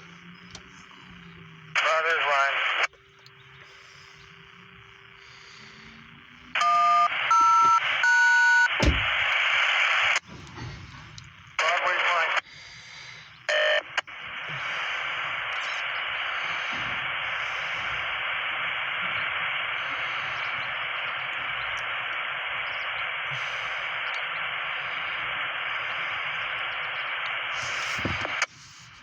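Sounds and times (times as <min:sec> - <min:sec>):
radio static hiss: 0:00.0 - 0:29.0
loud radio burst: 0:00.2 - 0:02.9, 0:03.6 - 0:10.3, 0:11.6 - 0:28.7.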